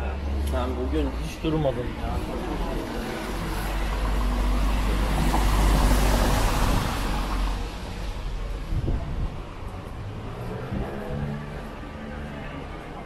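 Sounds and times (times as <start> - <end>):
vehicle passing on wet street: 0.0 - 13.0.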